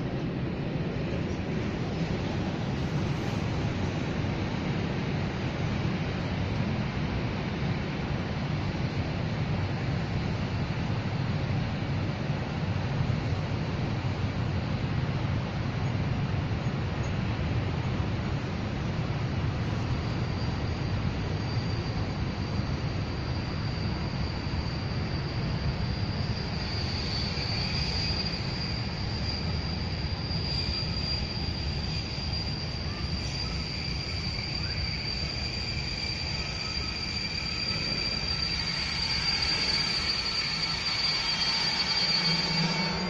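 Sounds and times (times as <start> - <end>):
freight train rumble: 0.0 - 43.0
high steady squeal: 0.0 - 43.0.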